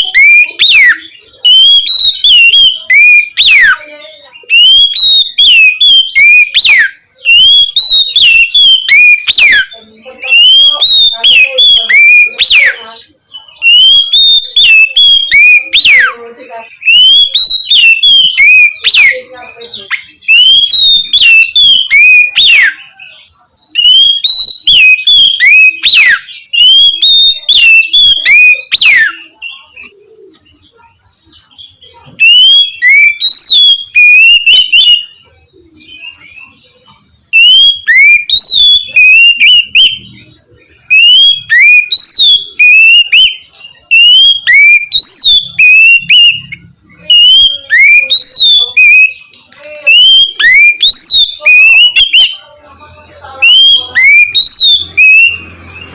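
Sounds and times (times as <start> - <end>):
bird singing whistled phrases: 0.0 - 30.8, 31.4 - 55.9.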